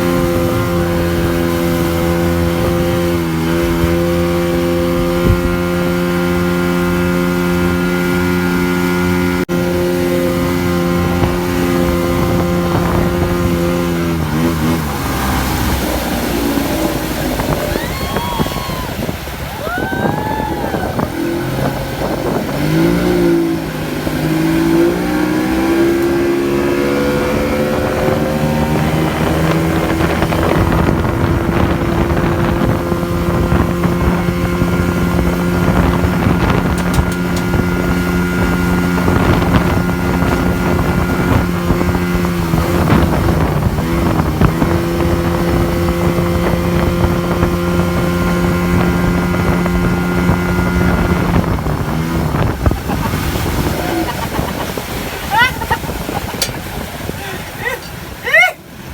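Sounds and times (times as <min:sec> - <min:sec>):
motorboat engine: 0:00.0 - 0:58.9
wind and water rushing: 0:00.0 - 0:58.9.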